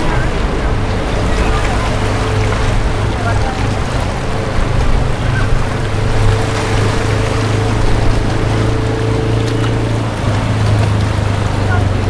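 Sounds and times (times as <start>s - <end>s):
constant rushing noise: 0.0s - 12.0s
low engine drone: 0.0s - 12.0s.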